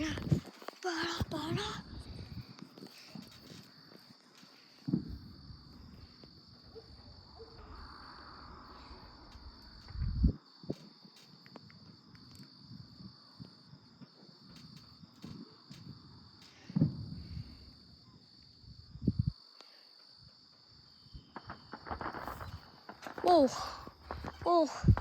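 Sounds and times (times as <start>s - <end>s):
night insects chorus: 0.0s - 25.0s.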